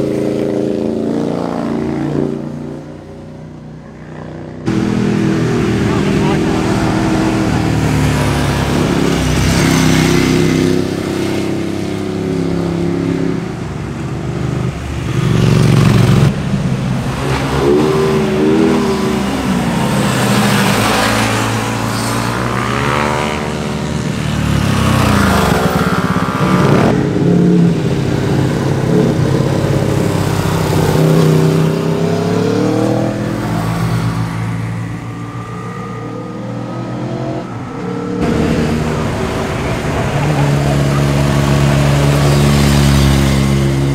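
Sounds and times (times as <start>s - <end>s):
motorcycles passing: 0.0s - 43.9s.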